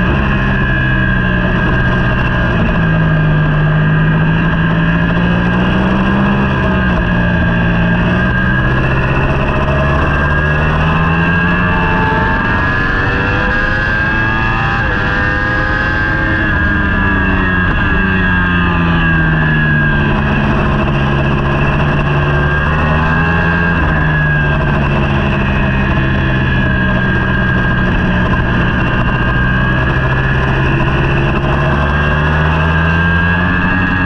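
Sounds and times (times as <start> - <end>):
superbike engine at speed: 0.0 - 34.0.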